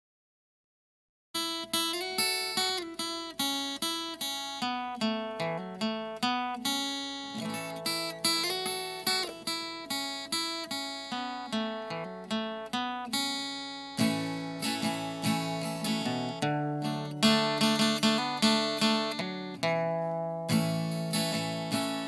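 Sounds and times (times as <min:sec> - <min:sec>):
acoustic guitar picking: 0:01.4 - 0:22.0.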